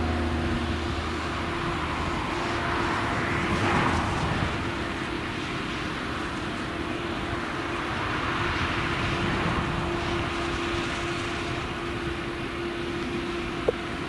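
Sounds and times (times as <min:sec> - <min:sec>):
harvester engine and chopper humming: 0:00.0 - 0:14.0
tractor engine: 0:00.0 - 0:14.0.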